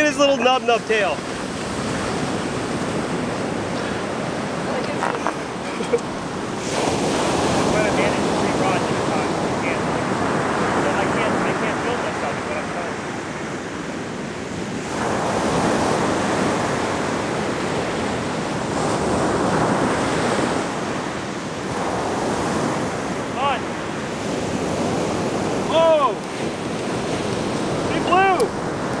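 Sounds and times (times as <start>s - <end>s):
ocean surf breaking: 0.0s - 29.0s
wind buffeting microphone: 0.0s - 29.0s.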